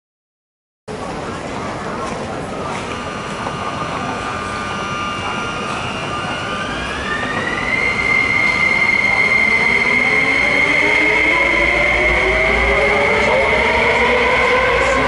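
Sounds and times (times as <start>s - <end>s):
electric train traction whine: 1.8s - 15.0s.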